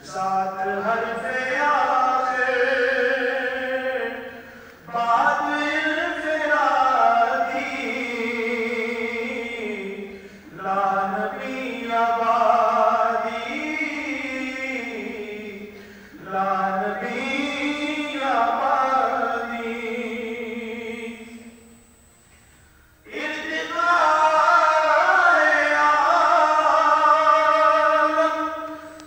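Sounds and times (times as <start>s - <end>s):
man chanting: 0.0s - 21.6s, 23.1s - 29.0s.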